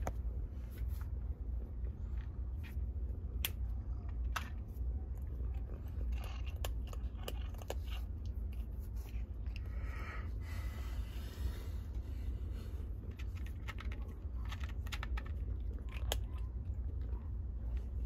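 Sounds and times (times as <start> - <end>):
steady low rumble: 0.0 - 18.0
cat chewing dry kibble: 1.6 - 18.0.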